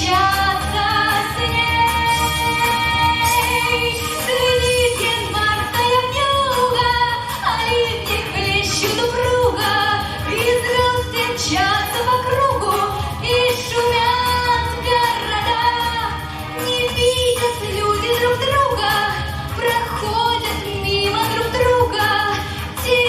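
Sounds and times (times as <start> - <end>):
girl singing: 0.0 - 23.0
pop backing track: 0.0 - 23.0.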